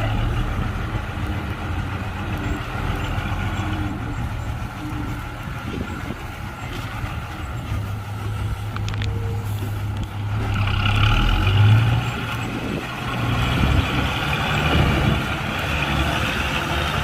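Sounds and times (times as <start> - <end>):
heavy diesel machinery engine: 0.0 - 17.0.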